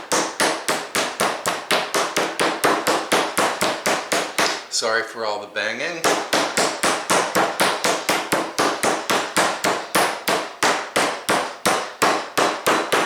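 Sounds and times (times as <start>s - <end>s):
meat pounder banging meat: 0.0s - 4.7s, 6.0s - 13.0s.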